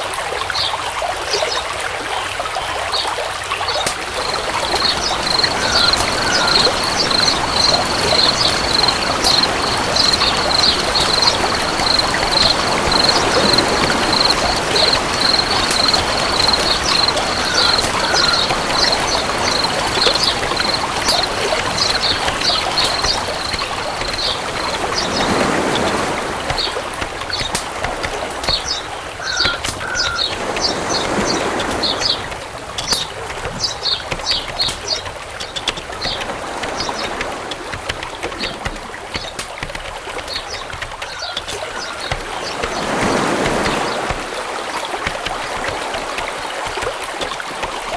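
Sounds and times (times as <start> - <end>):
stream running water: 0.0 - 47.9
crickets chirping: 3.7 - 47.9.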